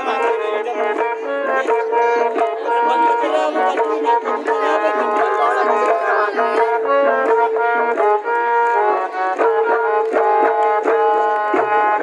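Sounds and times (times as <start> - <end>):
folk melody in held notes: 0.0 - 12.0.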